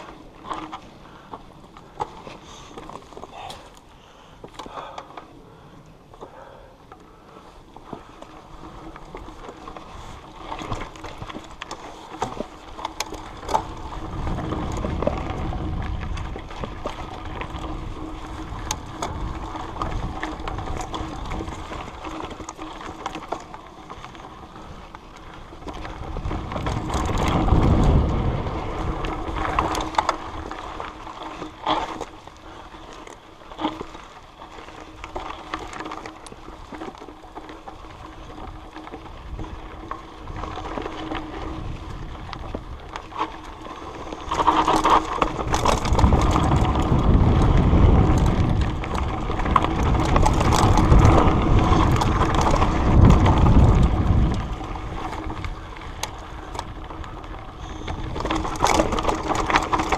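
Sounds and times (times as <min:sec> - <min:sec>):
tyre noise on dirt: 0:07.3 - 0:59.9
wind rushing over camera: 0:07.6 - 0:59.9.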